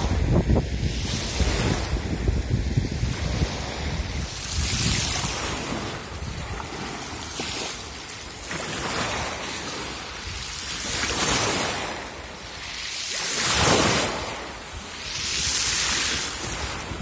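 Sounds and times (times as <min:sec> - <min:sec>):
sea waves washing over pebbles: 0:00.0 - 0:17.0
wind buffeting microphone: 0:00.0 - 0:17.0.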